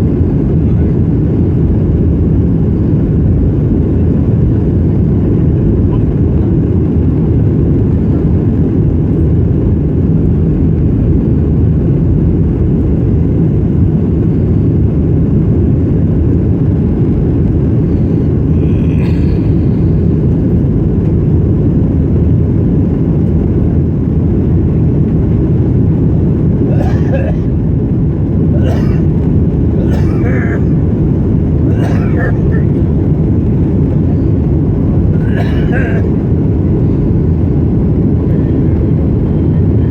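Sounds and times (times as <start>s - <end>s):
airliner engine rumble in cabin: 0.0s - 39.9s.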